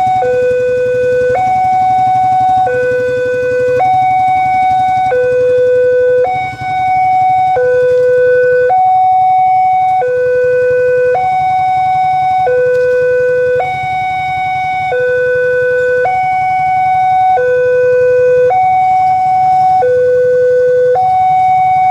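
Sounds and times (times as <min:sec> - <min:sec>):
level crossing two-tone alarm: 0:00.0 - 0:21.9.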